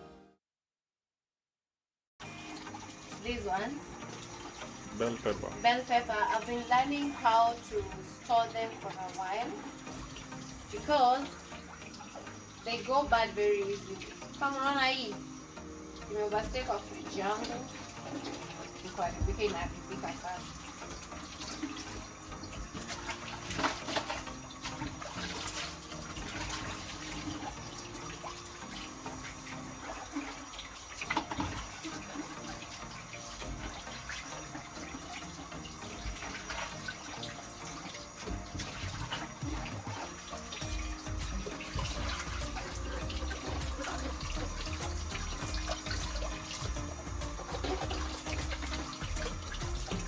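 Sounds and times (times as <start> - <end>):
tap water running into sink: 2.2 - 50.0.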